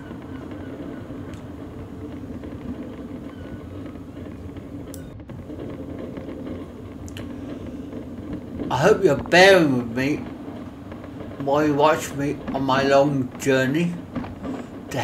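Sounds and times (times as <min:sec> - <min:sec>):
wheels rumbling over path: 0:00.0 - 0:15.0.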